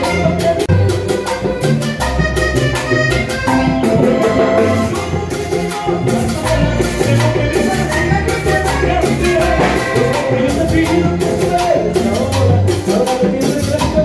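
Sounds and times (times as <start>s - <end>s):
accordion: 0.0s - 14.0s
bass guitar: 0.0s - 14.0s
drums with cymbals: 0.0s - 14.0s.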